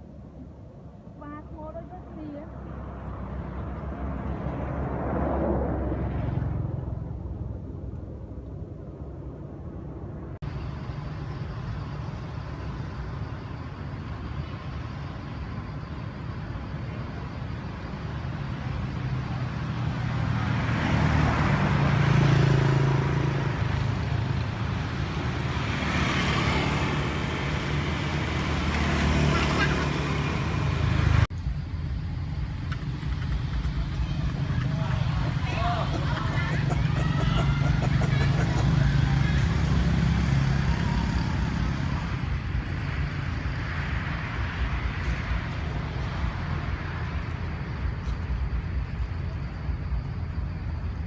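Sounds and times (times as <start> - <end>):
vehicle approaching and passing: 0.0 - 51.0
car passing by: 2.0 - 8.8, 14.5 - 31.3, 32.4 - 51.0.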